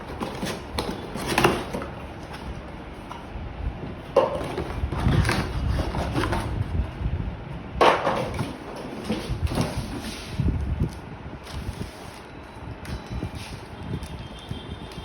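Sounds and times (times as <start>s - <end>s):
packaging rustling: 0.0s - 3.3s, 4.2s - 6.6s, 8.2s - 15.0s.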